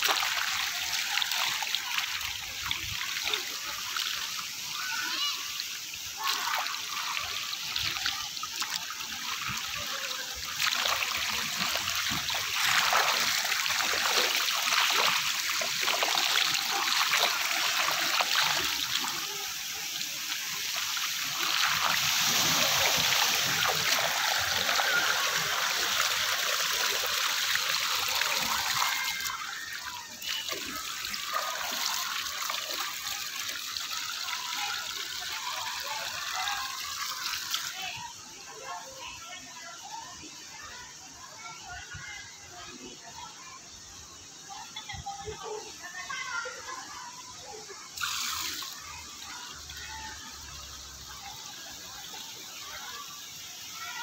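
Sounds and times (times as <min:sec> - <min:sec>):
fountains splashing water: 0:00.0 - 0:40.0, 0:44.4 - 0:54.0.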